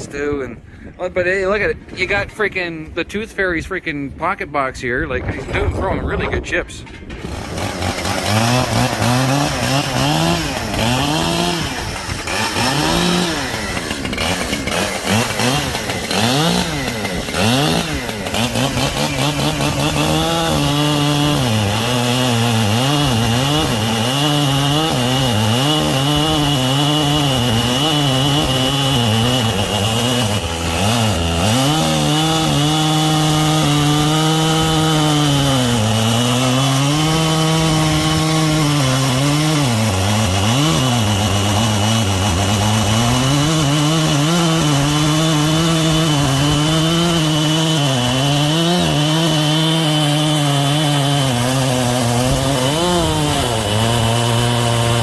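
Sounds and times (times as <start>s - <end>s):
chainsaw cutting wood: 6.2s - 55.0s.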